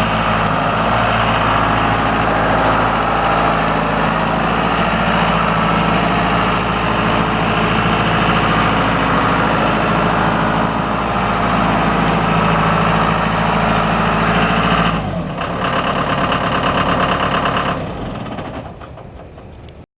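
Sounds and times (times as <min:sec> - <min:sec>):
tractor diesel engine running: 0:00.0 - 0:19.9.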